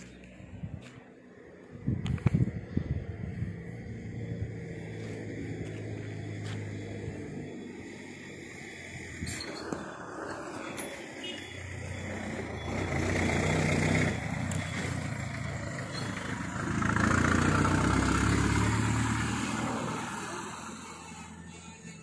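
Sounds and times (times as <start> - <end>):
heavy truck engines humming: 0.0 - 22.0.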